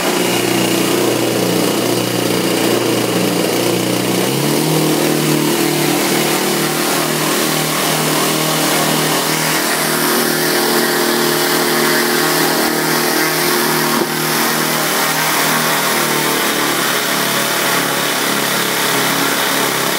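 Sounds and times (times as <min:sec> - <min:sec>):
small blower engine running: 0:00.0 - 0:19.9.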